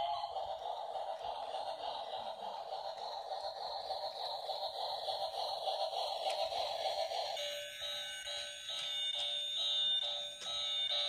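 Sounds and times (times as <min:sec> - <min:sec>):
toy train motor whirring: 0:00.0 - 0:11.0.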